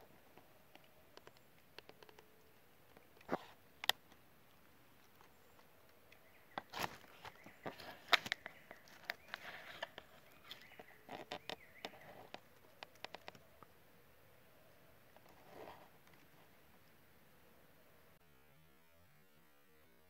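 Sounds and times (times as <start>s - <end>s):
faint clicks and rustling: 0.0s - 13.8s, 14.7s - 17.0s.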